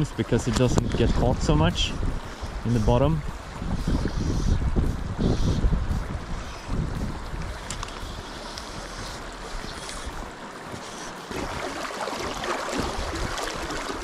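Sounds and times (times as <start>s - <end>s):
stream water rushing: 0.0s - 14.0s
wind gusting on microphone: 0.0s - 14.0s.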